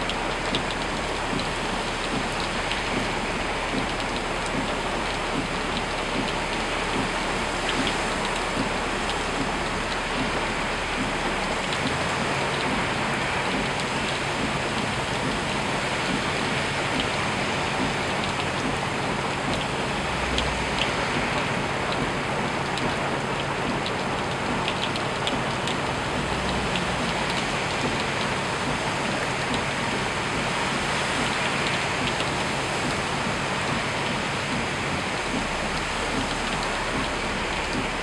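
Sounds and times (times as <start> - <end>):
drops ticking close by: 0.0 - 30.5, 31.2 - 38.0
rain falling on standing water: 0.0 - 38.0.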